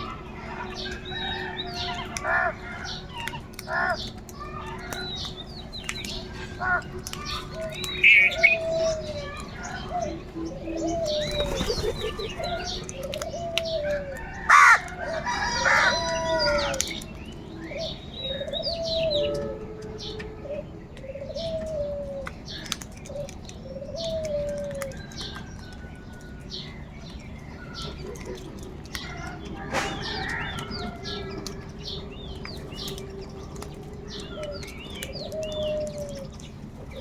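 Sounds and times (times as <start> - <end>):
crows calling: 0.0 - 37.0
other bird calls: 0.0 - 37.0.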